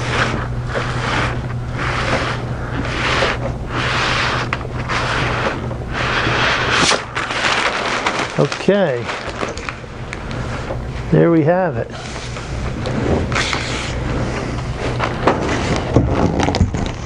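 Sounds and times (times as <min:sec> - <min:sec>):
backing sheet peeling and rustling: 0:00.0 - 0:11.1, 0:12.0 - 0:17.0
steady low hum: 0:00.0 - 0:17.0.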